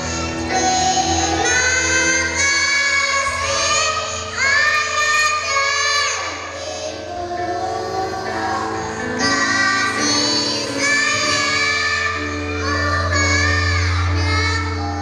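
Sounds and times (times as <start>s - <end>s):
backing music: 0.0s - 15.0s
children singing in unison: 0.0s - 15.0s.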